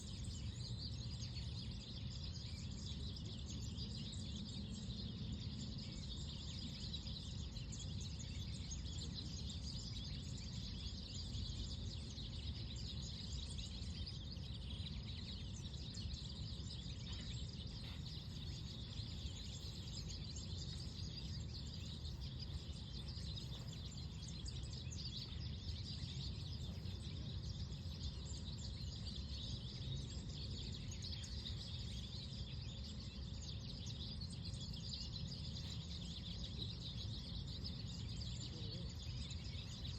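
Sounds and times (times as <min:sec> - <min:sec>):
low rumble of wind: 0:00.0 - 0:39.9
small birds chirping: 0:00.0 - 0:39.9.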